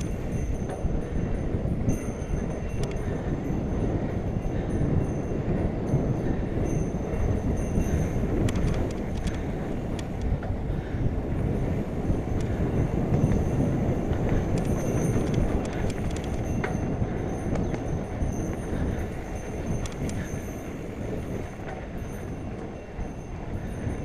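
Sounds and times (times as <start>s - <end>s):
bike rattling: 0.0s - 24.0s
bike tyre rumble and wind: 0.0s - 24.0s.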